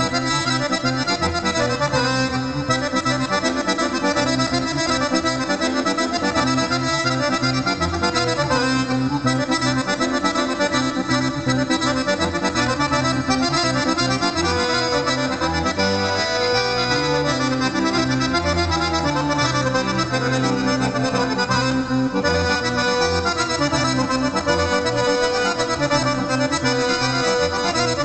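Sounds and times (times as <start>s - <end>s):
accordion dance tune: 0.0s - 28.0s.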